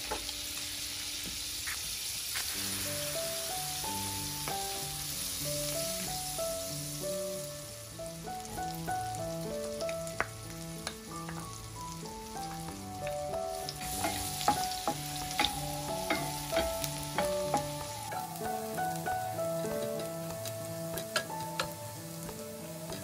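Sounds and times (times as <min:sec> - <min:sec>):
soft background music: 0:00.0 - 0:01.6, 0:02.5 - 0:23.0
butter sizzling in a frying pan: 0:00.0 - 0:23.0.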